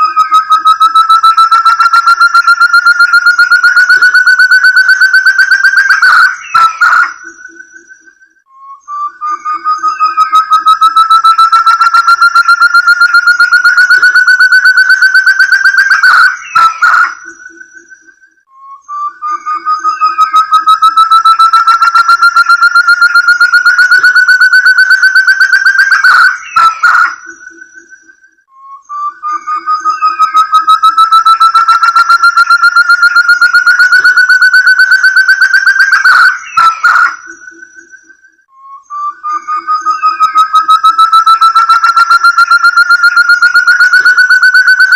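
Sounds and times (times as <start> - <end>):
quail whistled trill: 0.0 - 44.9.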